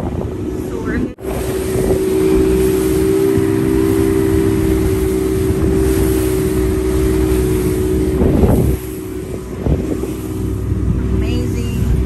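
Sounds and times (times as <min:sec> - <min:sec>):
motorboat engine humming: 0:00.0 - 0:12.0
wind noise on microphone: 0:00.0 - 0:12.0.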